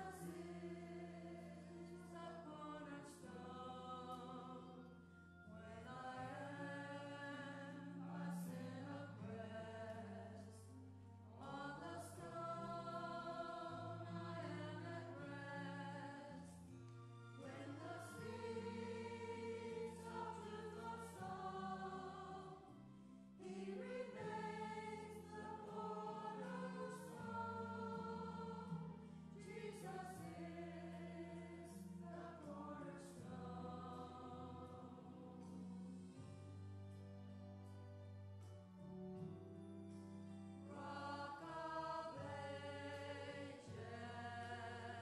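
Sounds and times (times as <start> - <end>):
choir singing: 0.0 - 35.8, 40.6 - 45.0.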